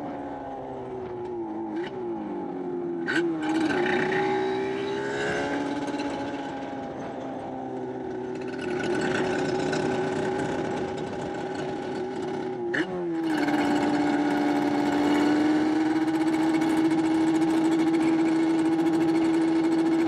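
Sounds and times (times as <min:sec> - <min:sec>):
two-stroke engine revving: 0:01.7 - 0:07.5, 0:08.2 - 0:20.0.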